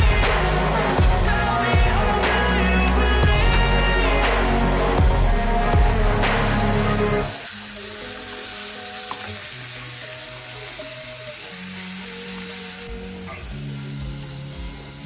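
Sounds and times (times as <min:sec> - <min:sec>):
soft background music: 0:00.0 - 0:15.0
vegetables sizzling in hot oil: 0:00.0 - 0:15.0.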